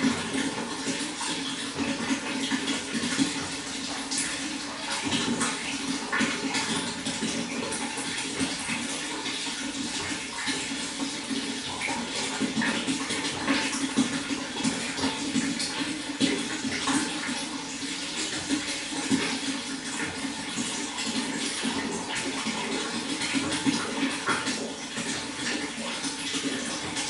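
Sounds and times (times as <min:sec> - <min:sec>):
water flowing and splashing: 0:00.0 - 0:27.0.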